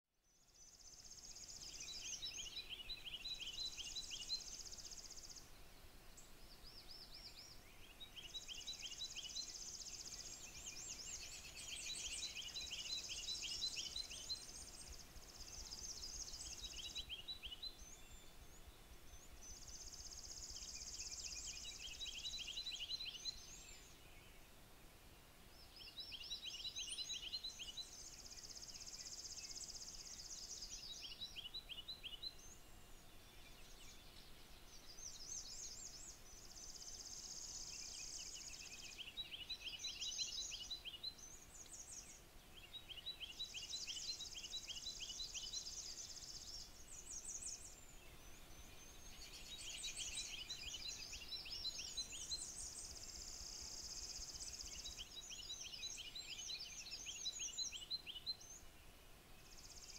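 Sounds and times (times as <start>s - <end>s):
songbirds singing: 0.2s - 59.9s.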